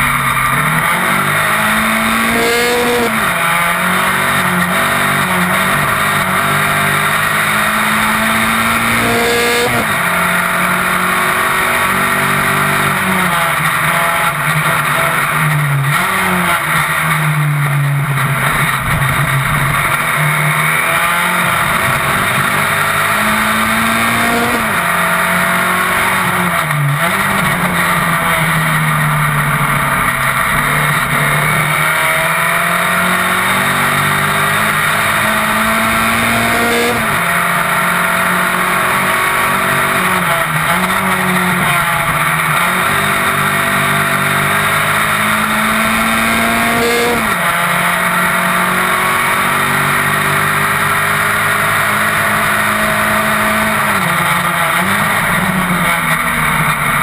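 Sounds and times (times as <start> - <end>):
racing car engine revving: 0.0 - 57.0
wind and road noise: 0.0 - 57.0.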